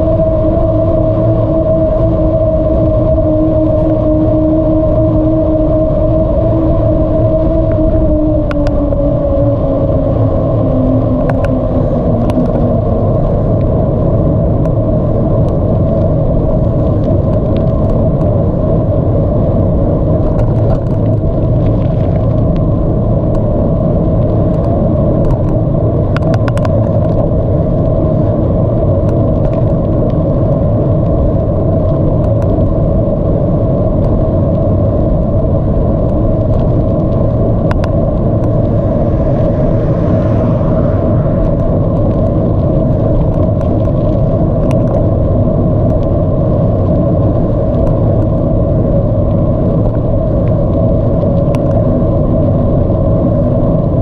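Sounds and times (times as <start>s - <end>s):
bicycle tyre noise: 0.0s - 54.0s
wind buffeting microphone: 0.0s - 54.0s.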